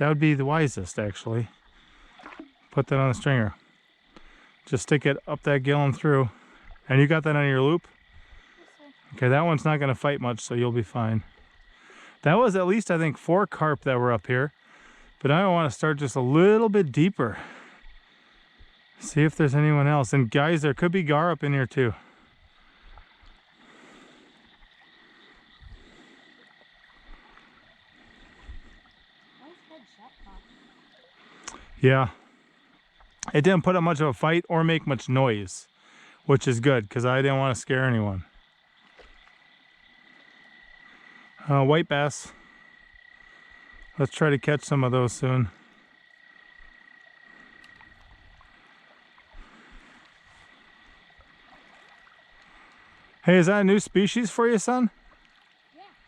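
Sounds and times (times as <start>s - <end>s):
frogs trilling: 0.0s - 56.0s.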